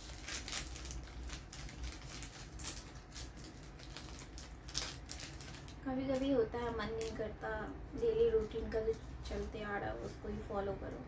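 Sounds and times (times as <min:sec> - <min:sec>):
plastic wrapper crinkling: 0:00.0 - 0:07.4, 0:08.1 - 0:09.6.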